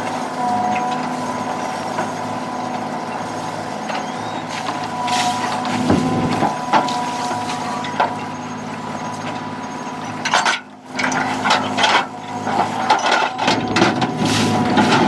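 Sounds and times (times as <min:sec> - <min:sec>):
boat engine humming: 0:00.0 - 0:12.8.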